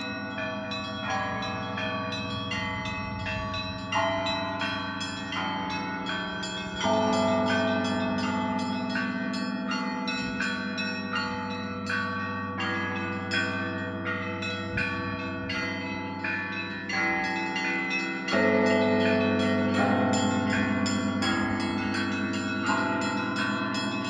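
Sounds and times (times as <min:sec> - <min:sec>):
larger bells ringing: 0:00.0 - 0:24.0.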